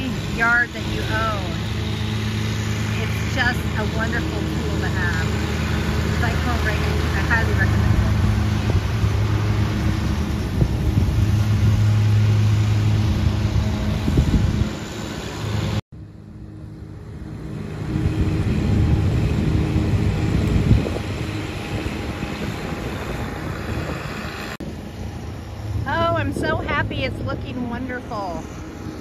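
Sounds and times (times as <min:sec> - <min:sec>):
garden tractor engine running: 0:00.0 - 0:29.0.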